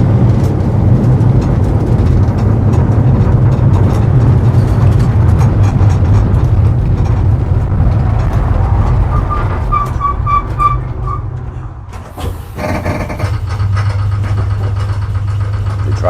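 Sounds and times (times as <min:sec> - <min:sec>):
tram rumbling: 0:00.0 - 0:16.0.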